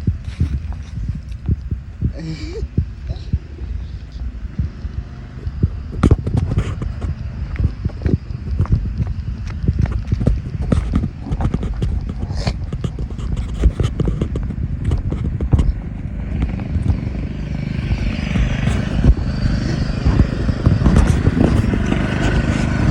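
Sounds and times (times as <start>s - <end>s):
riding lawnmower engine running: 0.0s - 22.9s
sharp knocks and clattering: 4.6s - 22.9s.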